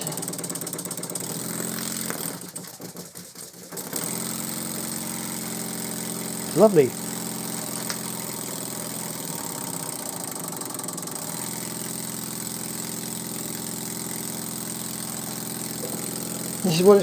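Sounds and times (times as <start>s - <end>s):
model steam engine running: 0.0s - 17.0s.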